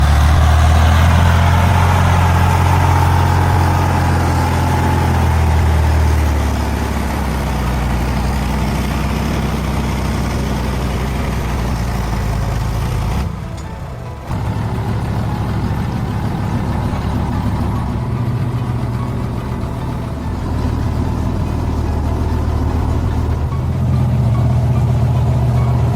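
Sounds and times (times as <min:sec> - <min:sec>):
truck diesel engine drone: 0:00.0 - 0:25.9.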